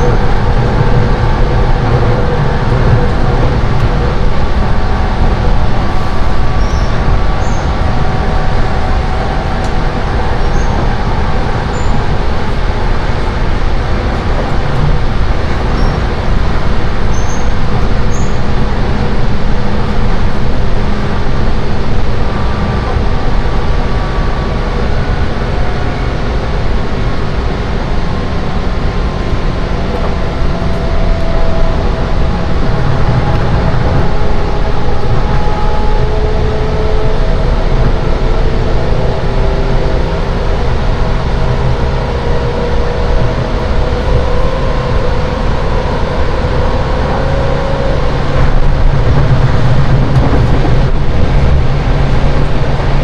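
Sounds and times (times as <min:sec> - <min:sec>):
electric train running noise: 0:00.0 - 0:53.0
faint whining tones: 0:00.0 - 0:53.0.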